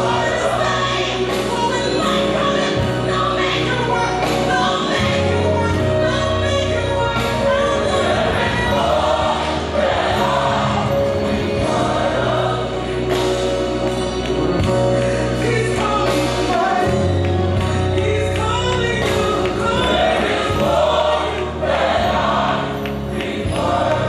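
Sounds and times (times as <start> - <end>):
choir singing gospel: 0.0 - 24.0
sustained bass notes: 0.0 - 24.0.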